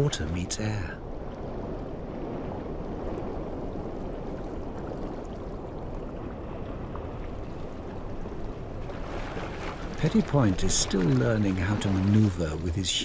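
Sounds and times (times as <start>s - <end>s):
underwater water wash: 0.0s - 13.0s.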